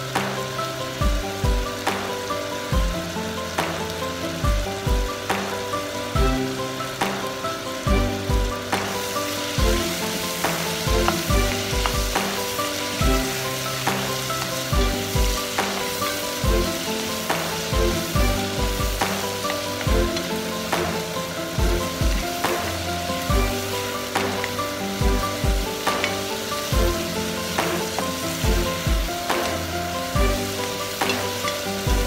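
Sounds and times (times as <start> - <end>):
background music: 0.0 - 32.0
vegetables sizzling in pot: 0.0 - 32.0.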